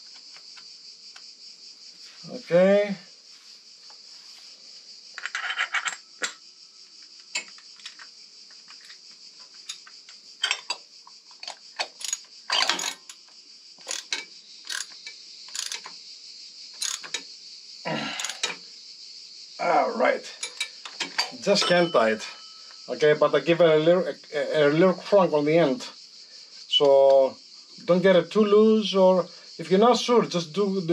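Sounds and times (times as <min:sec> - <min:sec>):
crickets chirring: 0:00.0 - 0:30.9.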